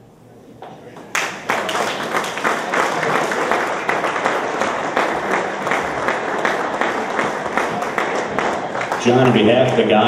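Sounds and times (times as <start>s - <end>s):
audience applauding: 1.0s - 10.0s.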